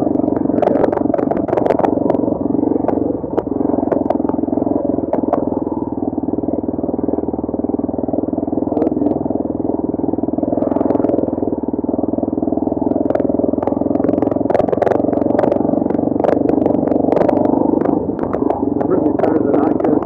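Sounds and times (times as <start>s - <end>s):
sharp clicks and knocks: 0.0s - 5.7s, 8.6s - 9.4s, 10.0s - 20.0s
motorcycle engine droning: 0.0s - 20.0s.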